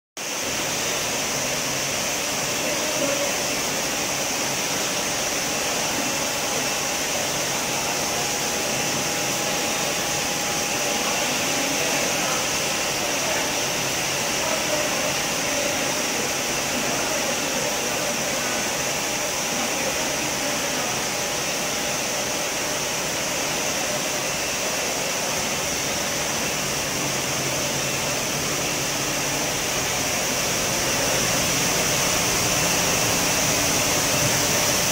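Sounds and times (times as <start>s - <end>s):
filling machine whirring: 0.2s - 34.9s.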